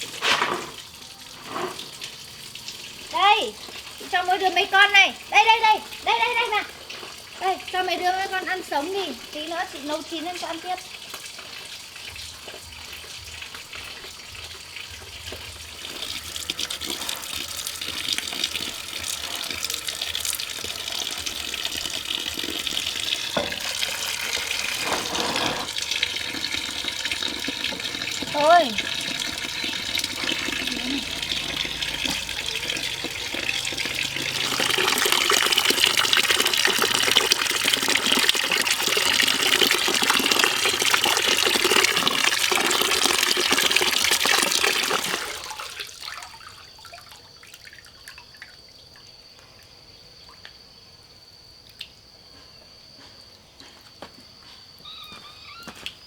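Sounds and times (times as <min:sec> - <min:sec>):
running water pouring and splashing: 0:00.0 - 0:49.0.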